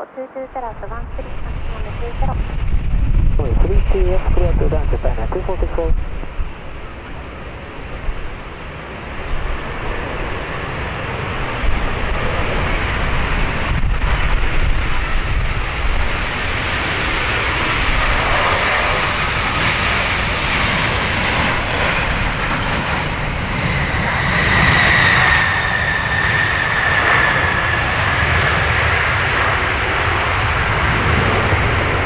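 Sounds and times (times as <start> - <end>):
high jet engine whine: 0.0 - 32.0
jet rumble: 0.0 - 32.0
wind rumble on microphone: 0.5 - 32.0.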